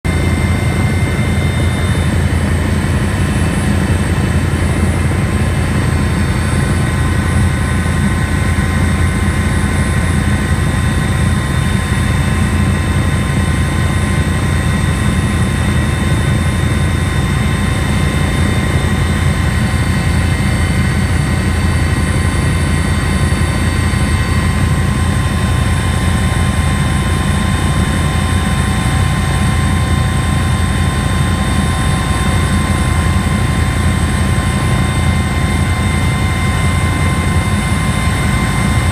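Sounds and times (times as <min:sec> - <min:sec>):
helicopter rotor noise: 0:00.0 - 0:38.9.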